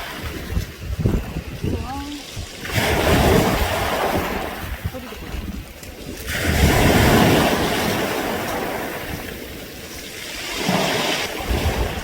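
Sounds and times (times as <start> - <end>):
waves washing over pebbles: 0.0 - 12.0.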